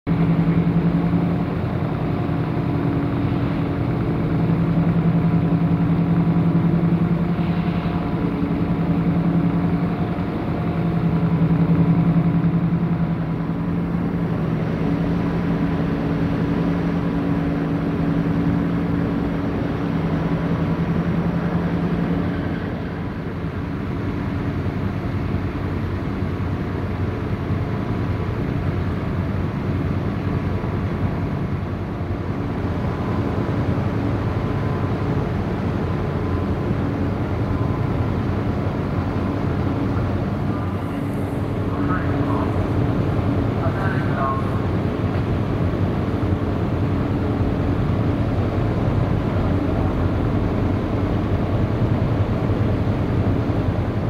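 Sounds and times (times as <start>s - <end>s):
engine droning hum: 0.1s - 54.0s
noisy rumble: 0.1s - 54.0s.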